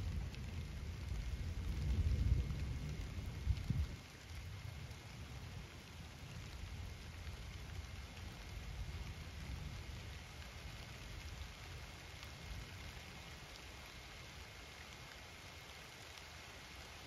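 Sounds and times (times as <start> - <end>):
gentle rain on foliage: 0.0 - 17.0.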